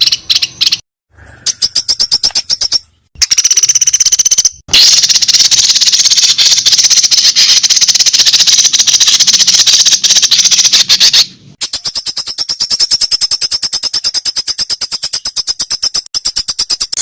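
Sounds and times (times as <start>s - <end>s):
songbird rattling chatter: 0.0s - 0.8s, 1.5s - 17.0s
bird quick evenly spaced notes: 1.5s - 17.0s.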